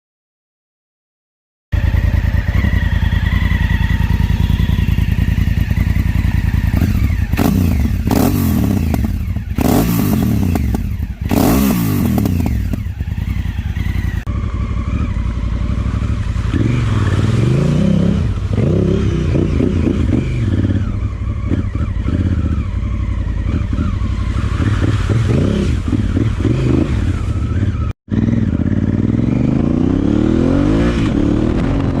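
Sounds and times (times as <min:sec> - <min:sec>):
motorcycle engine revving: 0:01.7 - 0:32.0.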